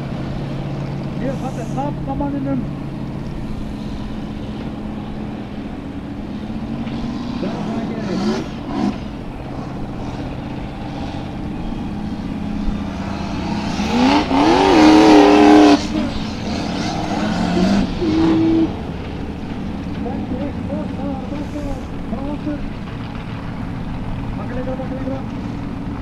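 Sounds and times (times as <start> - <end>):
buggy engine revving: 0.0 - 26.0.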